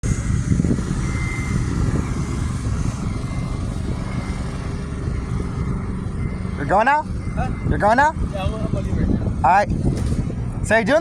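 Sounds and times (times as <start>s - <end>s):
garbage truck engine idling: 0.0s - 9.4s.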